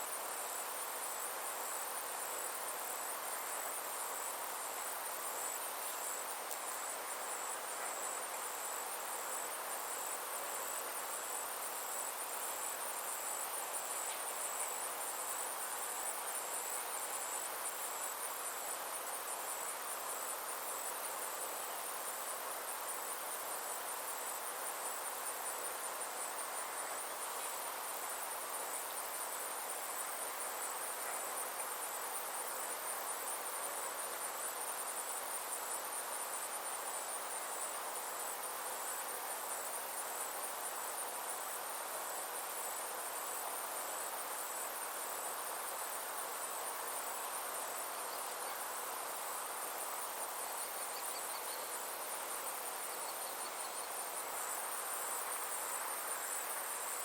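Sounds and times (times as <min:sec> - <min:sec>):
background hiss: 0:00.0 - 0:57.0
insects trilling: 0:00.0 - 0:57.0.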